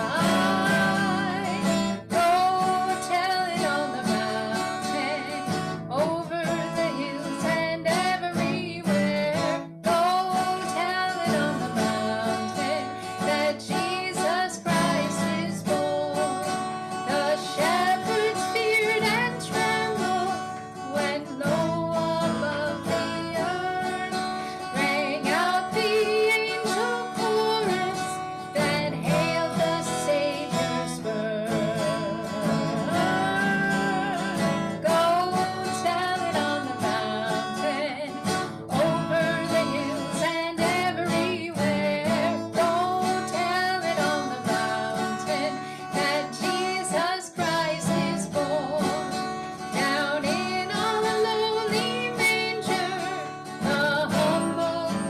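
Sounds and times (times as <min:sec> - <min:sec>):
acoustic guitar strumming: 0:00.0 - 0:55.0
woman singing: 0:00.0 - 0:55.0.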